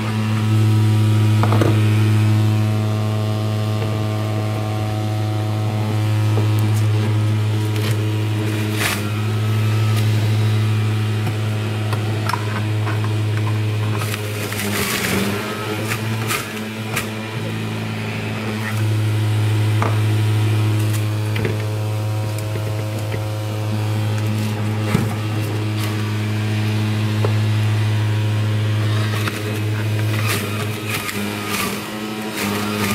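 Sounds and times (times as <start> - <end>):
juicer motor humming: 0.0 - 32.9
rough grinding with knocks: 6.2 - 32.9.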